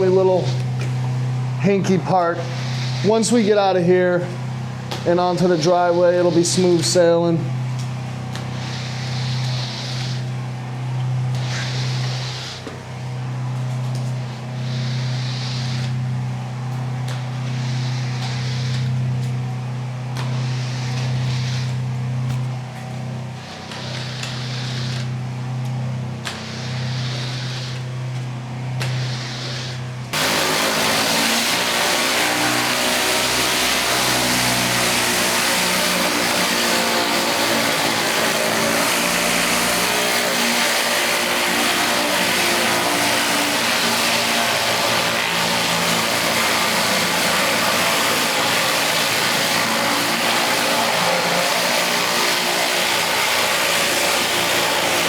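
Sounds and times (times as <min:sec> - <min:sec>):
high-pressure water spraying: 0:00.0 - 0:55.0
pressure washer engine running: 0:00.0 - 0:55.0.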